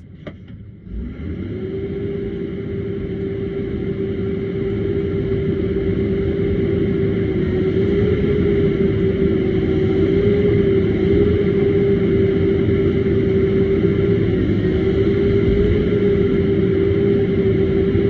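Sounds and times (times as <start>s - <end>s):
engine rumble: 0.0s - 18.0s
hydraulic whine: 0.8s - 18.0s.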